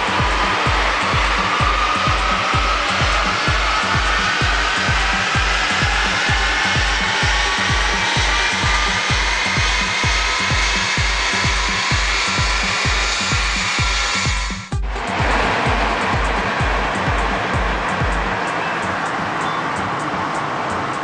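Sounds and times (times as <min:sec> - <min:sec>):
background music with steady beat: 0:00.0 - 0:21.0
diesel engine on dyno rollers: 0:00.0 - 0:21.0.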